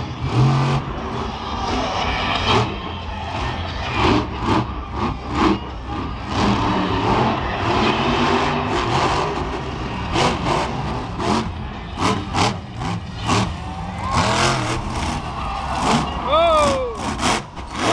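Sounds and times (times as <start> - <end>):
truck engine revving: 0.0 - 17.9.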